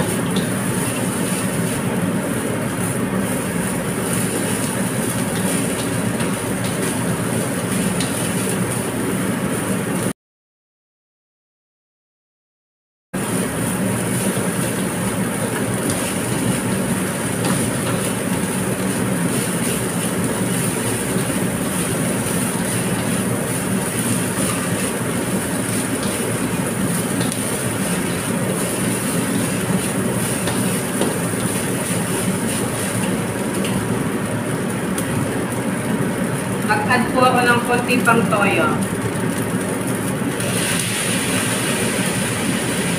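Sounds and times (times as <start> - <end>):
rice sizzling in a wok: 0.0 - 10.1, 13.2 - 42.9.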